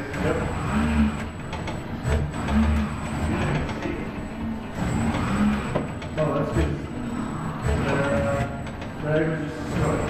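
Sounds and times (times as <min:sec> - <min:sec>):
robot arm motors whirring: 0:00.0 - 0:10.0.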